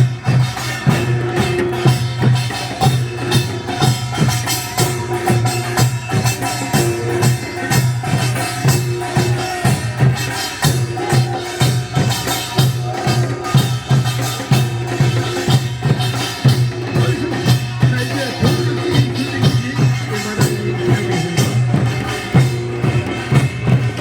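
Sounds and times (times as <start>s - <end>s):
folk percussion music: 0.0s - 24.0s.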